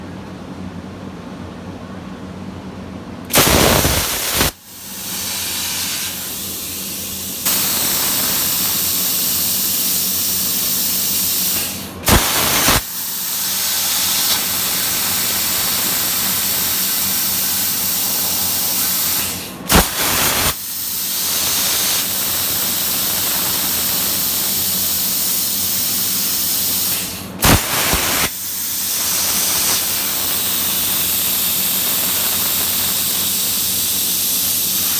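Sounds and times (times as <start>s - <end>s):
plasma cutter torch hissing: 3.3s - 34.9s.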